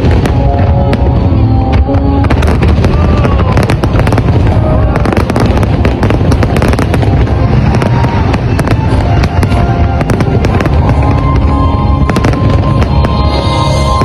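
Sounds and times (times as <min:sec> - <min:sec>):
fireworks bangs and crackles: 0:00.0 - 0:14.0
low rumble: 0:00.0 - 0:14.0
music playing: 0:00.0 - 0:14.0.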